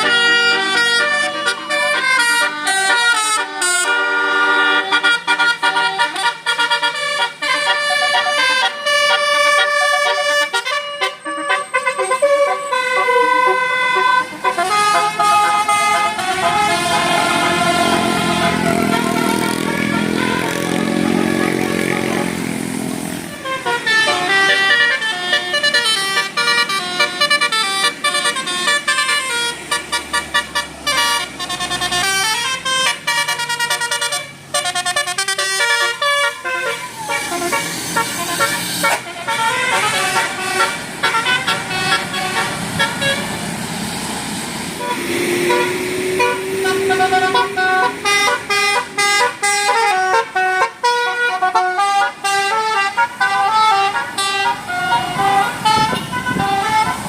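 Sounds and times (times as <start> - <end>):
multi-trumpet air horn tune: 0.0 - 22.4, 23.2 - 43.4, 44.7 - 57.0
bus engine rumbling: 0.0 - 57.0.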